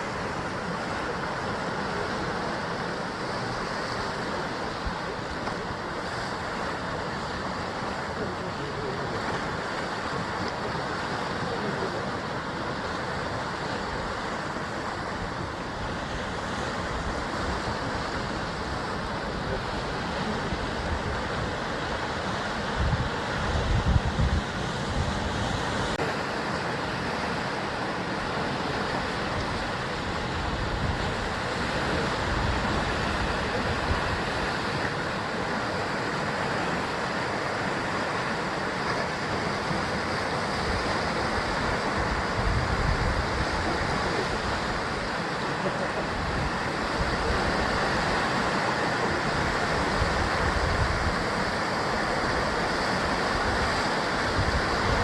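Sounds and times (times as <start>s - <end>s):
sea surf against cliffs: 0.0s - 55.0s.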